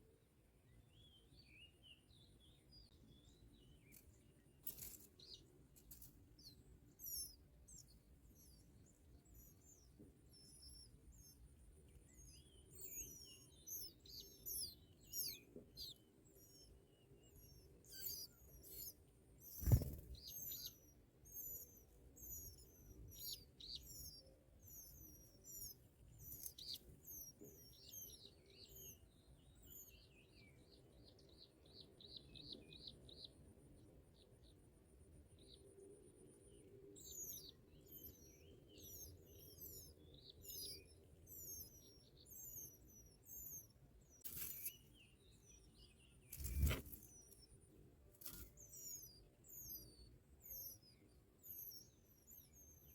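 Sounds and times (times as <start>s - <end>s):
birds chirping: 2.2s - 33.4s, 36.5s - 52.9s.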